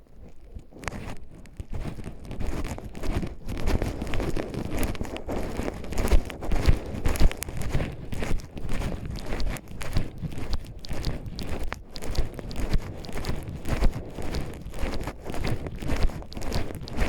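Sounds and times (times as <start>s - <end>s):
footsteps crunching dry leaves: 1.1s - 17.0s.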